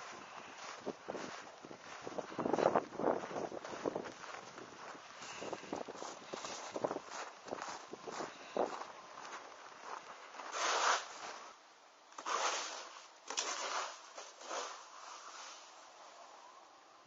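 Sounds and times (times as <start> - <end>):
footsteps crunching through snow: 0.0 - 16.0.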